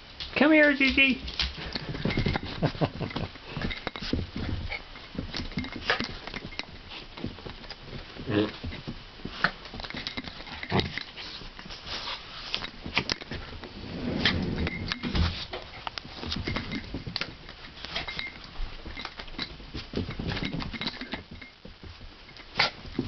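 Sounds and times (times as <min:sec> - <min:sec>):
dogs scuffling: 0:00.0 - 0:23.0.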